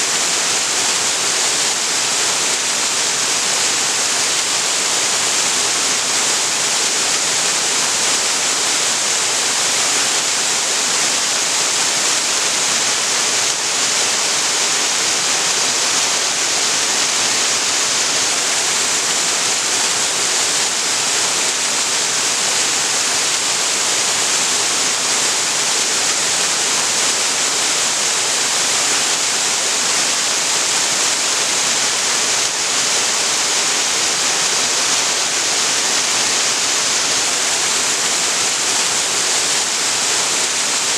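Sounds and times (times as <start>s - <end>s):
waterfall pouring: 0.1s - 40.9s.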